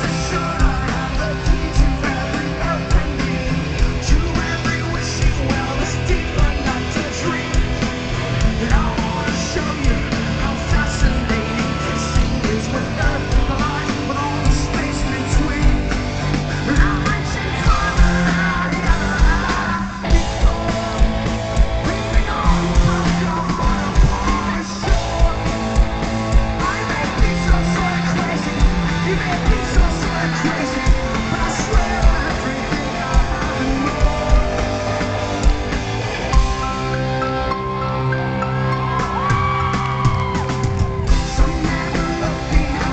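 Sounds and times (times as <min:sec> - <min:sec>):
person singing: 0:00.0 - 0:35.8, 0:36.4 - 0:42.9
bass guitar: 0:00.0 - 0:42.9
drums beating: 0:00.0 - 0:42.9
electric guitar: 0:00.0 - 0:42.9.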